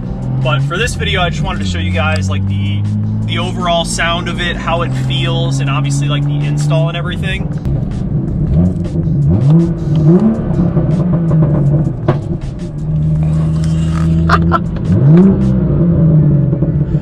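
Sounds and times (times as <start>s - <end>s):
car engine revving: 0.0s - 17.0s
exhaust cracks: 0.0s - 17.0s.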